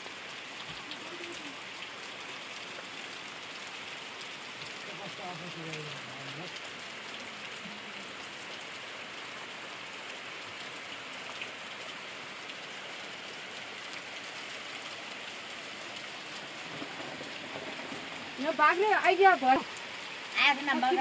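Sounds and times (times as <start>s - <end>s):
steady rain on vegetation: 0.0s - 21.0s.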